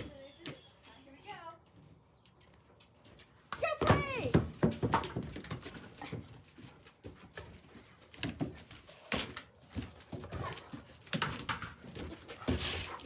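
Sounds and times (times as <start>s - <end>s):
dogs playing with toys: 2.5s - 13.0s.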